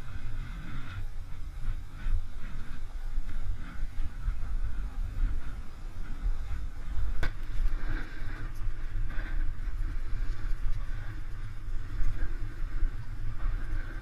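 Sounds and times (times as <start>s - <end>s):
snowboard sliding on snow: 0.0s - 14.0s
wind buffeting microphone: 0.0s - 14.0s.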